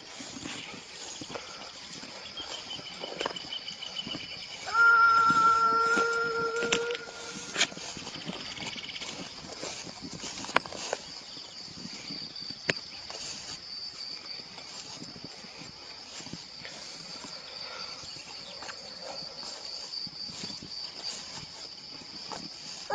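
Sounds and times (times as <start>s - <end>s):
insects chorus: 0.0s - 22.9s.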